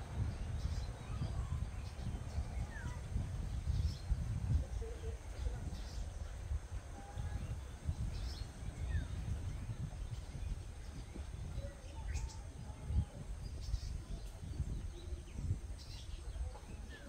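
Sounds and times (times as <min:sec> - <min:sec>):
low microphone rumble: 0:00.0 - 0:17.0.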